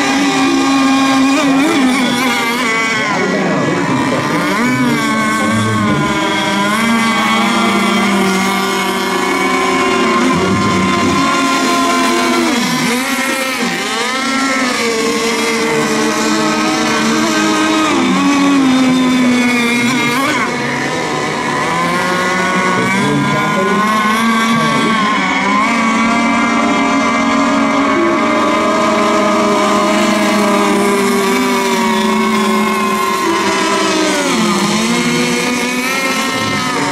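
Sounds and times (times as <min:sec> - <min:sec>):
radio-controlled boat engines racing: 0:00.0 - 0:36.9.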